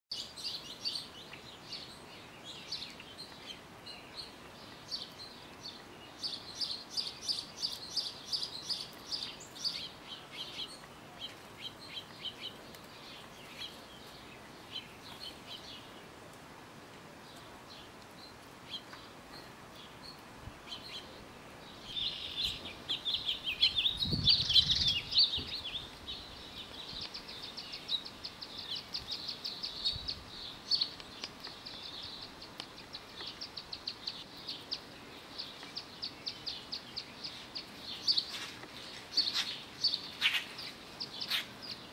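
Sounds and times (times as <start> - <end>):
small songbirds chirping: 0.1 - 41.9.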